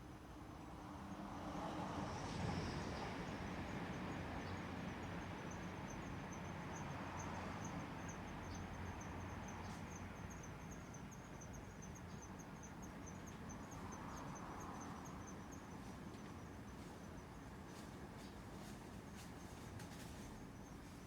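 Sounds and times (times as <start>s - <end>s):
insect chirping: 4.0s - 21.0s.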